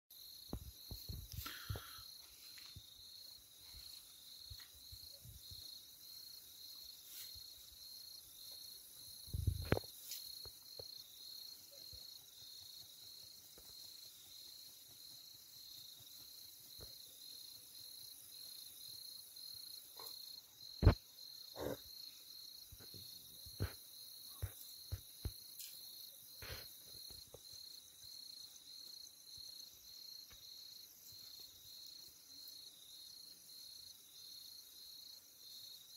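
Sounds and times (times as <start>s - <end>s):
crickets chirping: 0.1s - 35.9s
high insect hiss: 0.2s - 35.9s.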